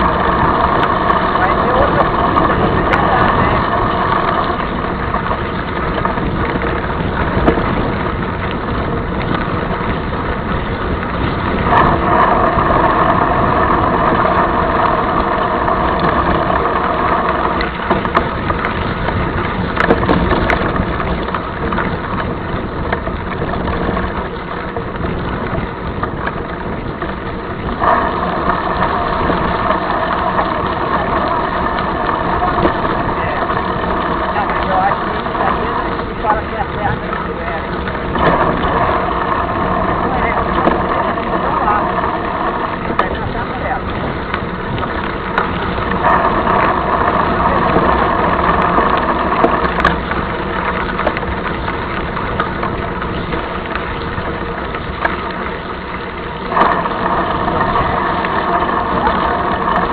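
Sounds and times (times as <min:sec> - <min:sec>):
bike rattles and knocks: 0:00.0 - 0:59.9
mountain bike riding on dirt: 0:00.0 - 0:59.9.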